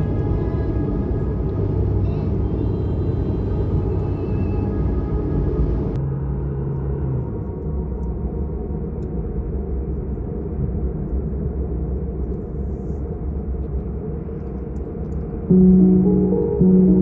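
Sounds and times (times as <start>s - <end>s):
car tyres and engine rumble: 0.0s - 16.6s.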